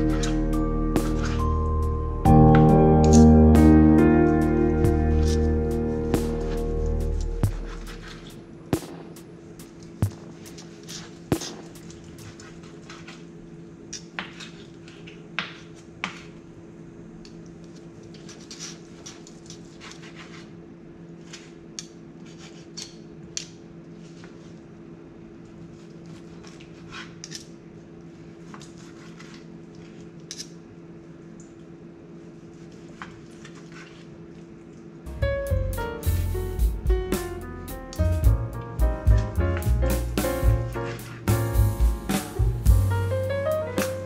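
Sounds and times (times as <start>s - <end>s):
steady low hum: 0.0s - 19.8s, 27.4s - 44.0s.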